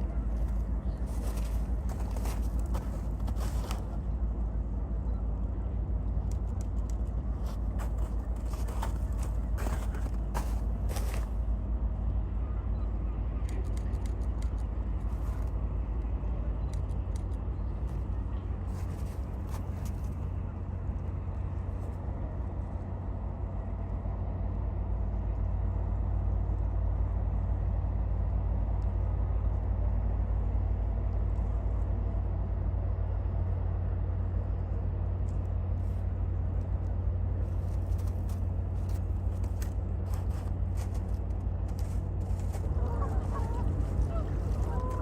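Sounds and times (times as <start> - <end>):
deep rumble of ship engines: 0.0 - 45.0.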